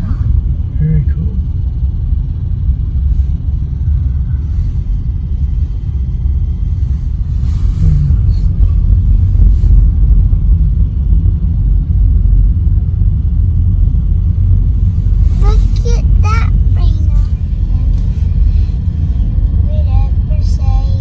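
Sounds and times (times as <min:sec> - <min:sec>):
car interior engine and road noise: 0:00.0 - 0:21.0.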